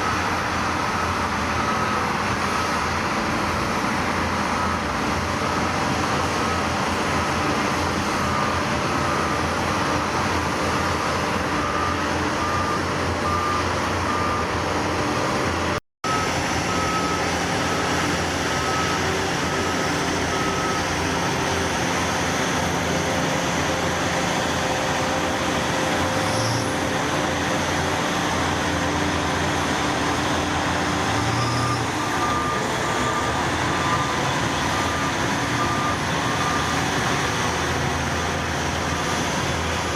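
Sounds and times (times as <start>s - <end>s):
reversing alarm beeping: 0.0s - 15.4s, 16.0s - 23.8s, 25.6s - 37.3s
heavy diesel machinery running: 0.0s - 39.9s.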